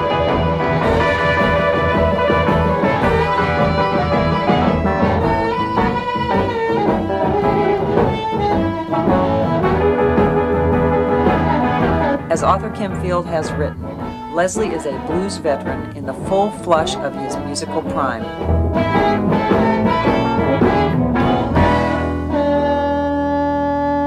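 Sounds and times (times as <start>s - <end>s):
blues band playing: 0.0s - 24.0s
harmonica long notes: 0.0s - 24.0s.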